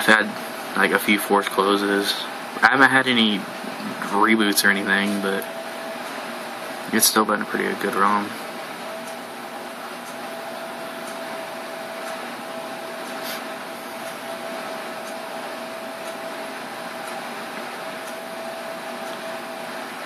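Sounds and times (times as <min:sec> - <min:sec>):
mid-pitched hum: 0:00.0 - 0:20.0.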